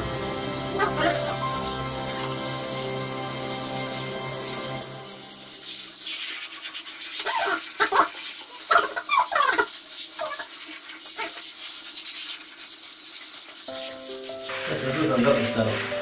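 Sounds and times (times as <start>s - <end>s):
hiss of water: 0.0s - 16.0s.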